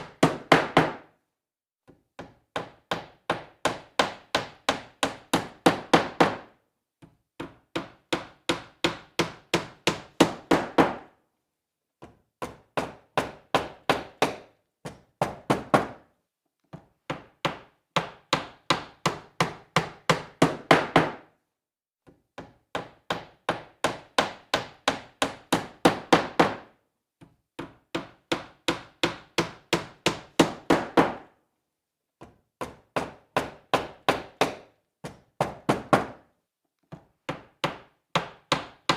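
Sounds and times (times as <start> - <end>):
hammer driving nails into wood: 0.0 - 1.1, 1.8 - 11.2, 12.0 - 16.1, 16.7 - 21.3, 22.1 - 26.8, 27.6 - 31.3, 32.2 - 38.9.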